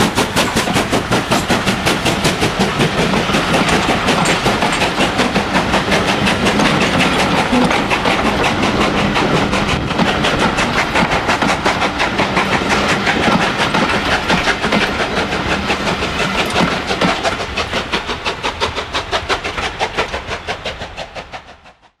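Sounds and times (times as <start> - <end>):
steam locomotive chimney exhaust beats: 0.0 - 22.0.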